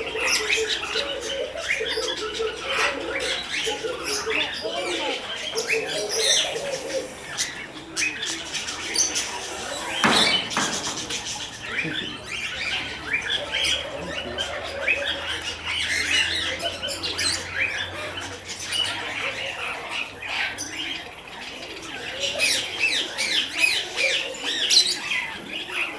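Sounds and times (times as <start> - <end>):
birds chirping and squawking: 0.0 - 24.9.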